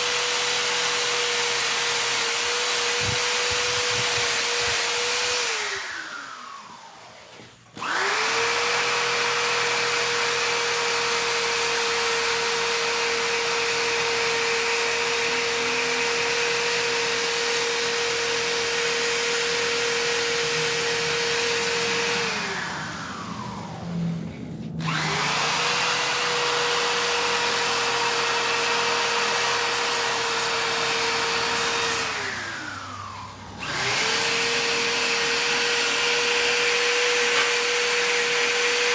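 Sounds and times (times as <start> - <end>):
power grinder running: 0.0 - 38.9.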